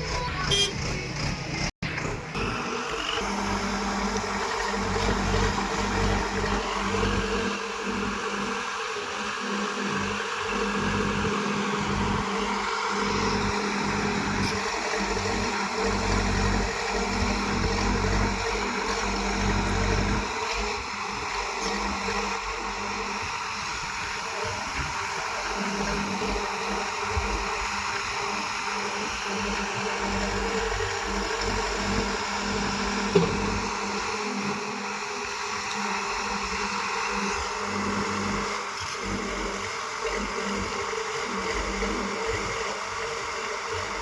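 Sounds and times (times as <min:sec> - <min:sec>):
heavy machinery engine rumbling: 0:00.0 - 0:42.9.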